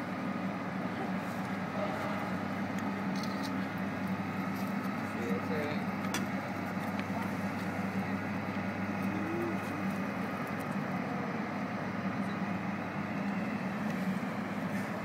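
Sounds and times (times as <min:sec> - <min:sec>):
city traffic hum: 0:00.0 - 0:15.0.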